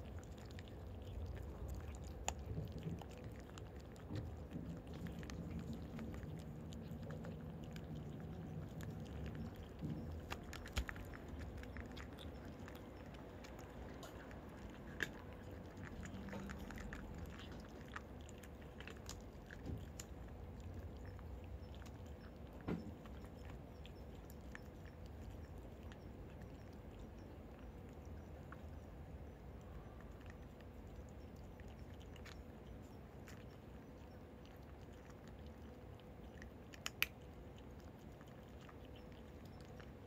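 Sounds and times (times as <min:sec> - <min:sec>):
cats crunching dry food: 0:00.0 - 0:40.0.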